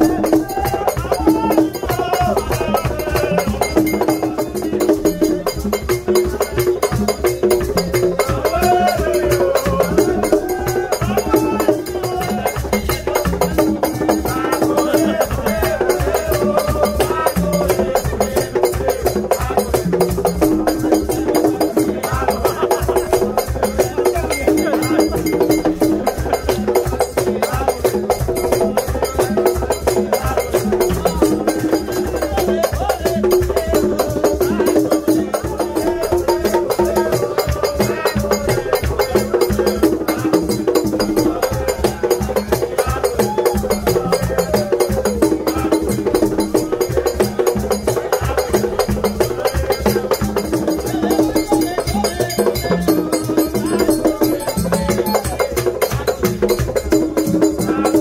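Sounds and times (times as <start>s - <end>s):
hand drums beating: 0.0s - 58.0s
voices singing: 0.0s - 58.0s.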